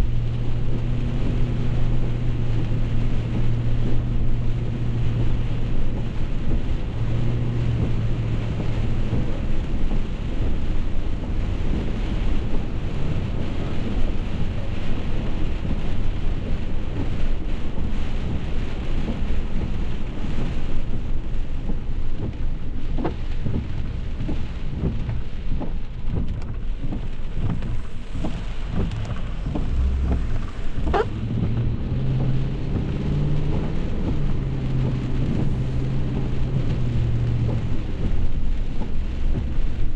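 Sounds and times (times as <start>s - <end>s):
engine and road noise hum: 0.0s - 39.9s
heavy rain drumming on car: 0.0s - 39.9s.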